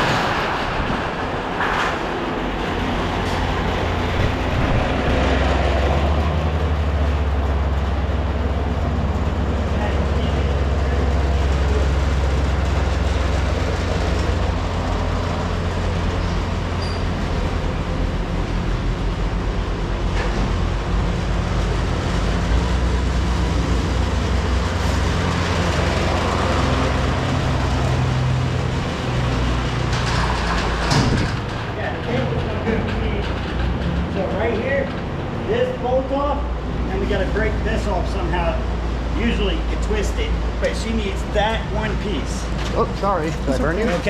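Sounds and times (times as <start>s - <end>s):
low mechanical rumble: 0.0s - 44.0s.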